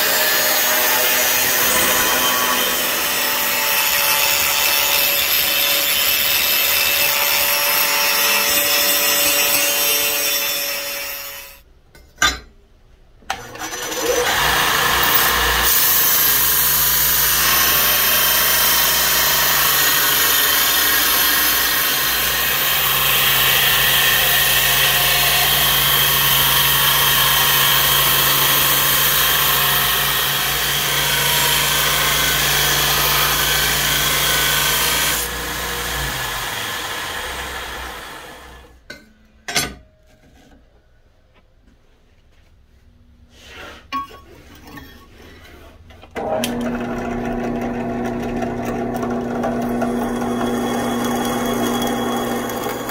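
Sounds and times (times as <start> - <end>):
belt grinder grinding steel: 0.0 - 11.5, 13.4 - 38.4, 46.2 - 52.9
angle grinder cutting steel: 0.0 - 11.6, 13.4 - 38.7, 46.2 - 52.9.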